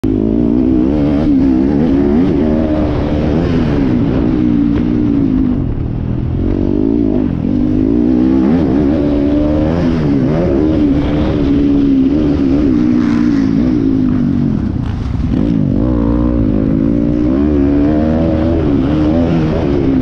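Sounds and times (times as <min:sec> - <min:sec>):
dirt bike engine revving: 0:00.0 - 0:05.8, 0:06.4 - 0:20.0.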